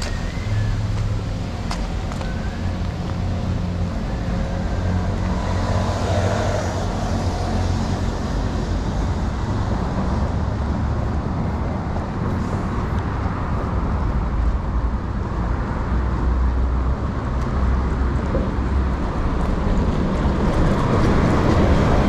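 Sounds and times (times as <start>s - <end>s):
cars passing with road noise: 0.0s - 22.0s.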